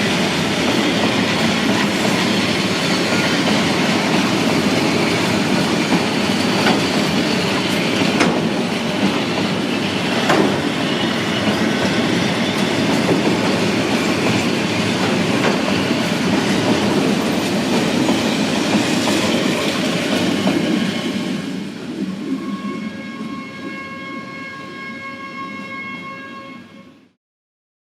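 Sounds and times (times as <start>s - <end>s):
train rolling rumble: 0.0s - 24.6s.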